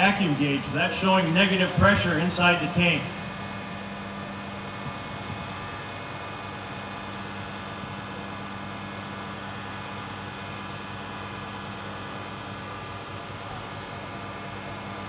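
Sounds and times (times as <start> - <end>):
engine driving vacuum pump: 0.0 - 15.0.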